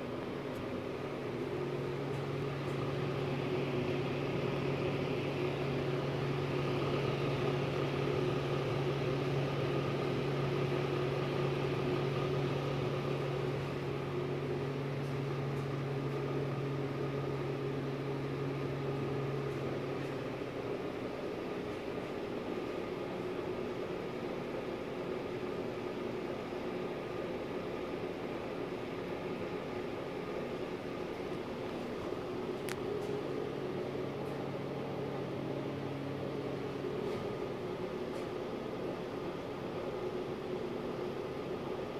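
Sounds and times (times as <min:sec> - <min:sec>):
heater fan motor hum: 0:00.0 - 0:41.9.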